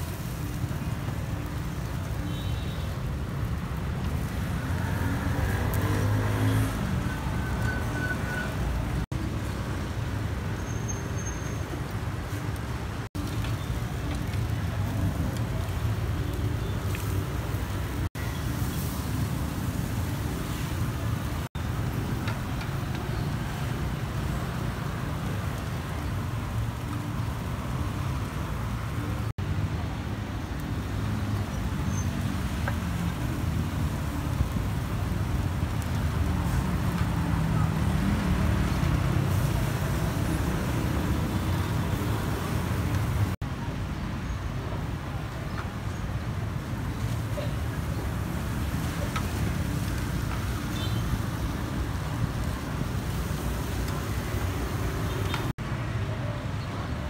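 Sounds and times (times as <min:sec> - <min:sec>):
street traffic noise: 0:00.0 - 0:57.0.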